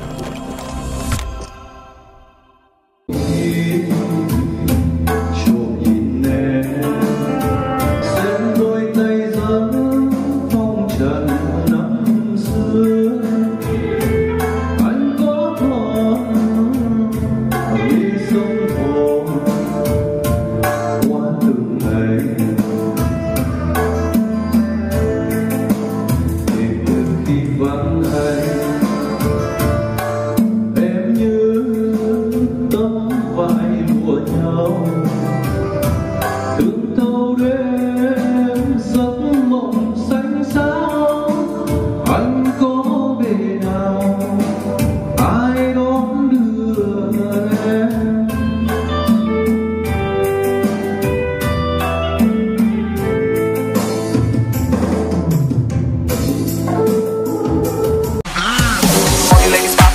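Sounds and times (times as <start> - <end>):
person singing: 0.0 - 53.6, 56.3 - 59.9
pop song with drum beat: 3.1 - 51.6, 52.2 - 59.9.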